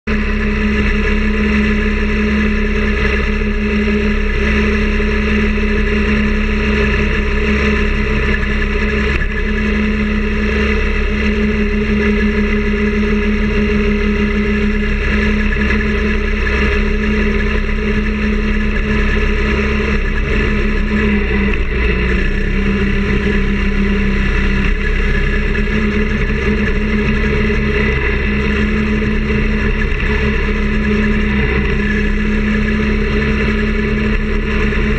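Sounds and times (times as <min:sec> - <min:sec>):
small engine running steadily: 0:00.0 - 0:34.9.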